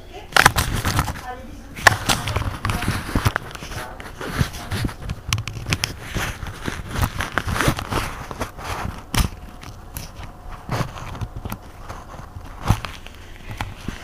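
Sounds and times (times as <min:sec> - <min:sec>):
crackling clicks and knocks: 0:00.2 - 0:14.0.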